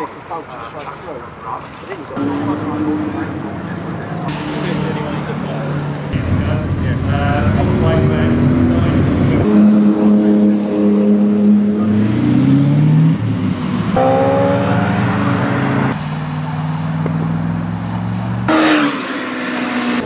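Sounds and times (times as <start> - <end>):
sports car engine accelerating: 2.2 - 20.0.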